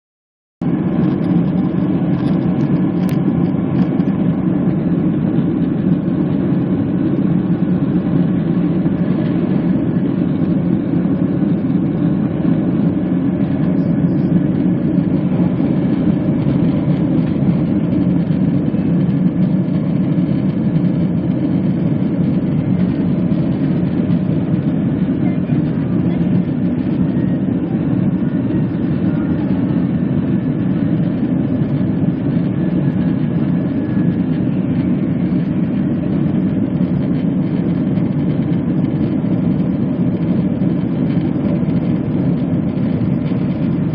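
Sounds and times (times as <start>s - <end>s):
jet engines rumbling in cabin: 0.6s - 43.9s.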